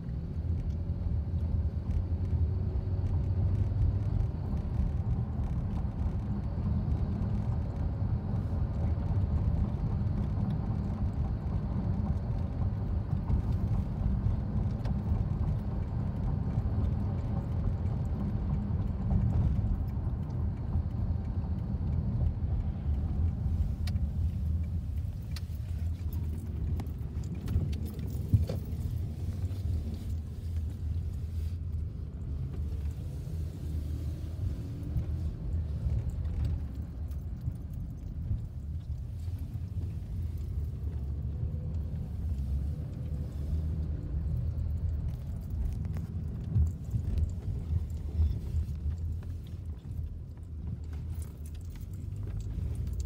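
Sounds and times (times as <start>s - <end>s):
car road noise rumble: 0.0s - 53.0s.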